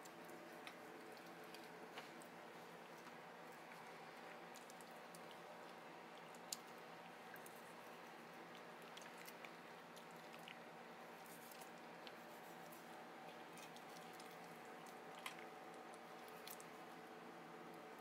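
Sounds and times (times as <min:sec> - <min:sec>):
wet squishing of flesh: 0:00.1 - 0:17.9.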